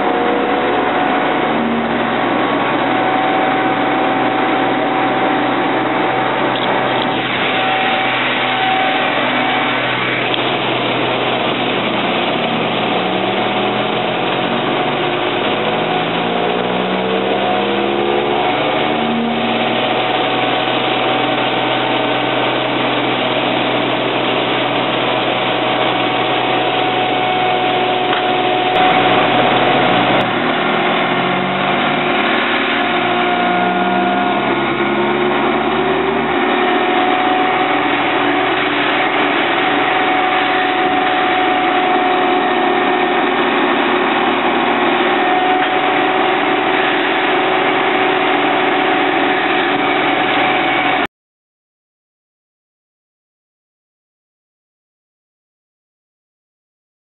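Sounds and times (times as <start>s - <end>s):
truck engine humming: 0.0s - 51.0s
vibrator sweep rising hum: 0.0s - 51.1s.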